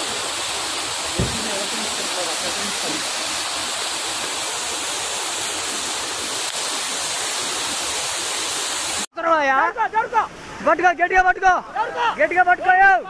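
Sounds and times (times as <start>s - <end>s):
torrent of water rushing: 0.0s - 12.8s.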